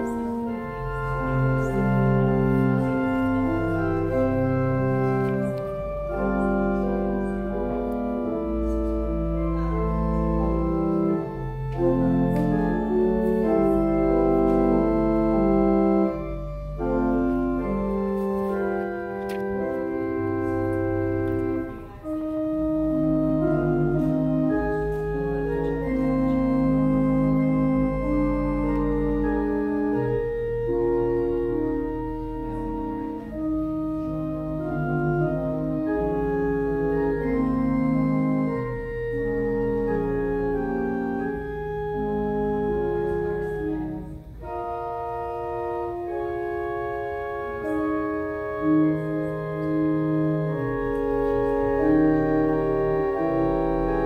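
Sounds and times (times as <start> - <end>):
organ chords: 0.0 - 54.0.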